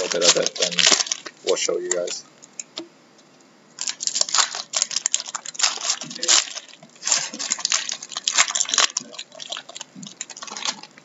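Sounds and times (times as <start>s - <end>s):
card pack wrappers tearing: 0.0s - 2.2s, 3.8s - 11.0s.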